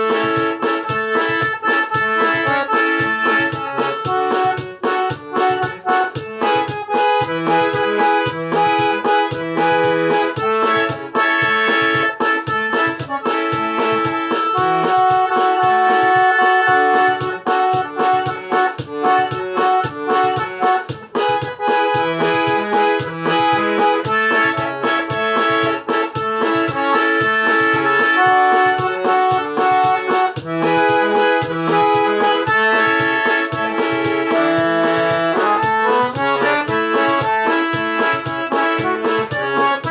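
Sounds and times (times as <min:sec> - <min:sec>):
accordion playing melody: 0:00.0 - 0:39.9.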